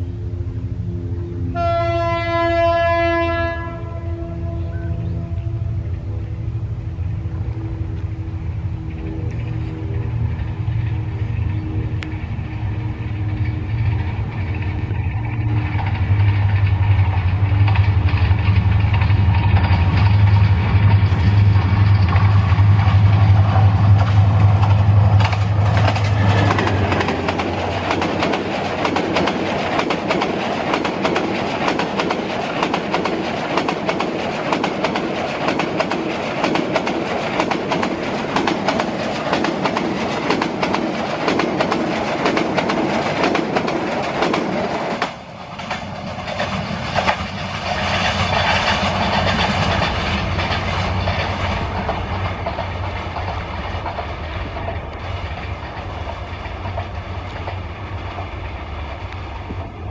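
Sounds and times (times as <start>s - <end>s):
locomotive engine droning: 0.0s - 59.9s
train wheels clickety-clack: 8.8s - 59.9s.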